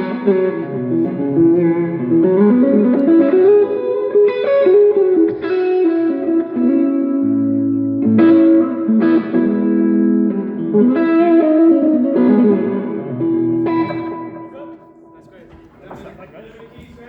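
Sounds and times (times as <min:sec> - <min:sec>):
electric guitar with effects: 0:00.0 - 0:15.1.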